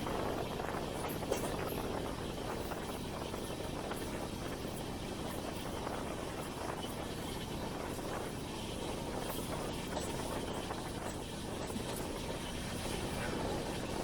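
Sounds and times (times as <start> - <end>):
train running at speed: 0.0 - 14.0.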